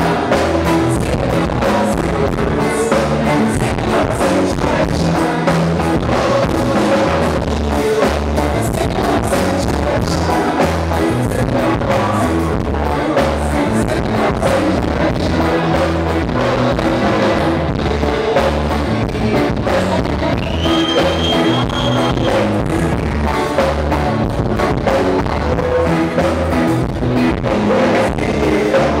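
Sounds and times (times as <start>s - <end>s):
drum kit: 0.0s - 29.0s
electric guitar: 0.0s - 29.0s
man singing into a microphone: 0.0s - 29.0s
pulsing bass line: 0.0s - 29.0s.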